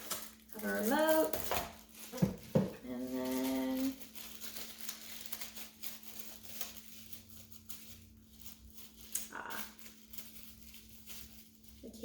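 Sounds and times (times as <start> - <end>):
packaging rustling and clicking: 0.0 - 11.9.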